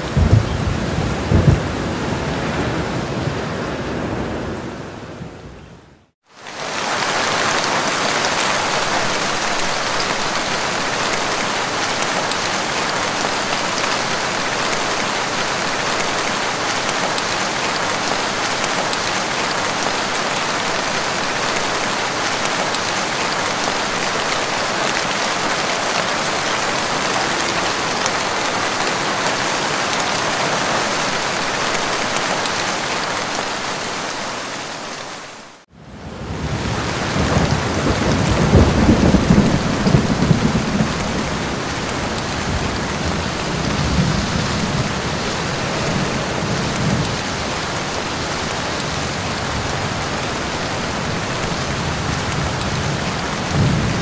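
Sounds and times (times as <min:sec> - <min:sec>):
rain falling on leaves: 0:00.0 - 0:05.4, 0:06.2 - 0:54.0.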